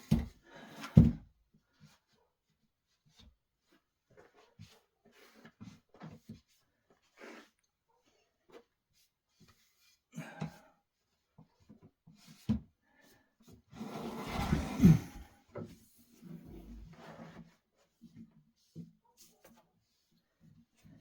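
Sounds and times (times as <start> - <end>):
scrape and rustle: 3.0 - 10.1, 11.0 - 21.0.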